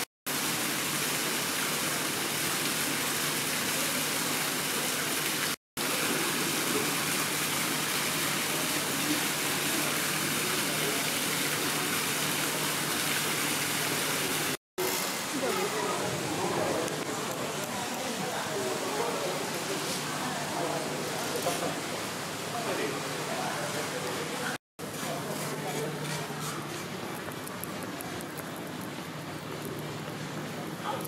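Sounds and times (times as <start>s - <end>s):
falling water hiss: 0.0s - 31.0s.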